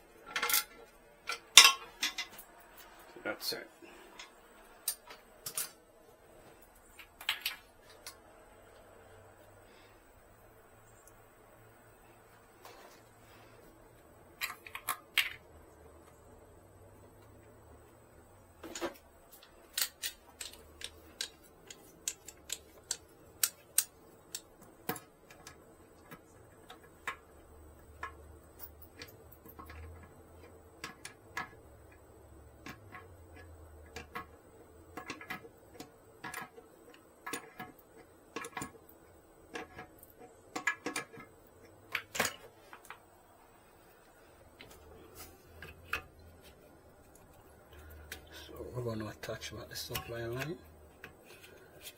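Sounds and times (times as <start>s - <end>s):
clicks and knocks of handling parts: 0.1s - 3.2s, 3.9s - 5.8s, 6.4s - 9.0s, 12.3s - 16.3s, 16.9s - 51.9s.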